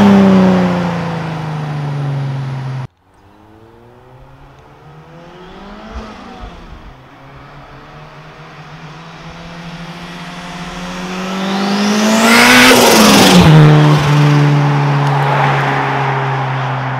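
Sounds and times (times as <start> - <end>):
car accelerating past: 3.2 - 16.9.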